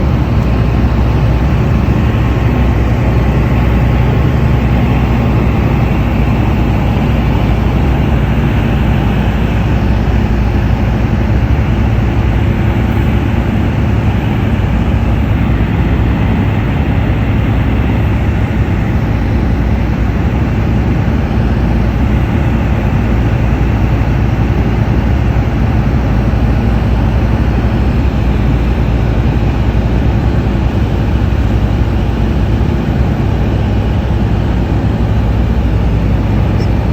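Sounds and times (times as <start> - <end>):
light aircraft engine and propeller drone: 0.0 - 36.9.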